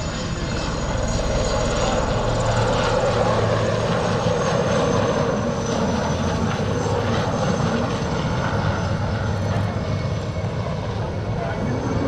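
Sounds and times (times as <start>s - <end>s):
helicopter rotor drone: 0.0s - 12.0s
high turbine whine: 0.0s - 12.0s.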